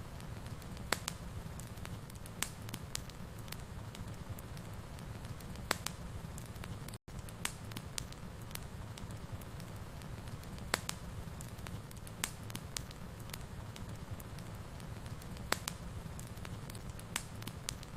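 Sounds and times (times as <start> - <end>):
crackles and pops of fire: 0.0 - 17.9
fire burning in a fireplace: 0.0 - 17.9.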